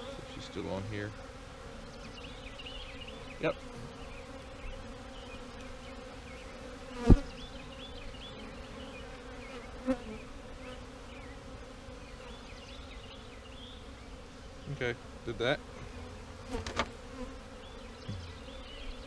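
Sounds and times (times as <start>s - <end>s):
single bee buzz sweeping down: 0.0s - 19.0s
swarm of bees buzzing: 0.0s - 19.0s.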